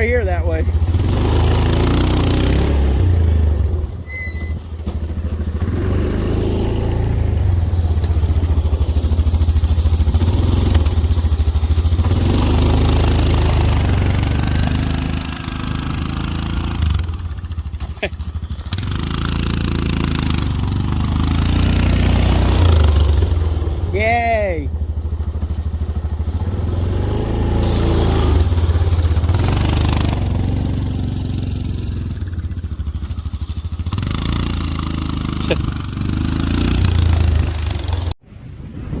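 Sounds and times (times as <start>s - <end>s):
truck engine running hard: 0.0s - 38.2s.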